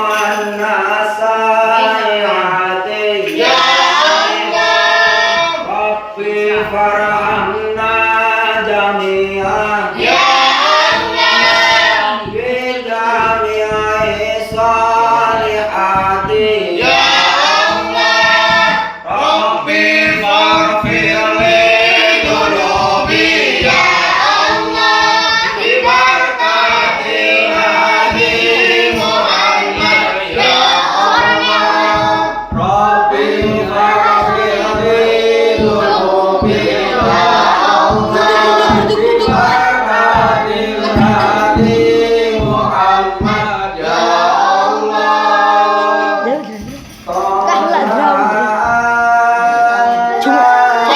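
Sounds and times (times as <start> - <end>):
group singing devotional songs: 0.0 - 50.9.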